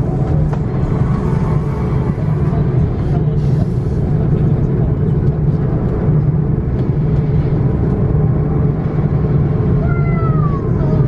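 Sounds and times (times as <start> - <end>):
airplane cabin engine hum: 0.0 - 11.0.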